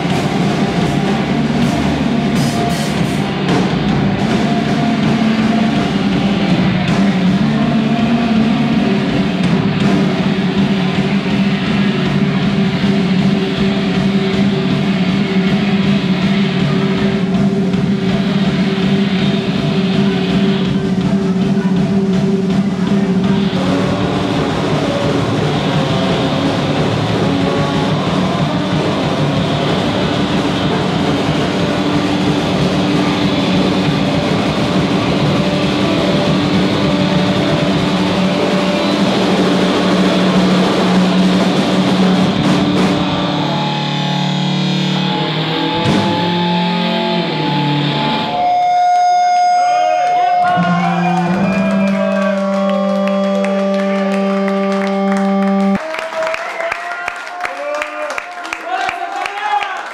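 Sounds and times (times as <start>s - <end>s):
live rock band playing: 0.0s - 55.8s
steady low note: 0.0s - 55.8s.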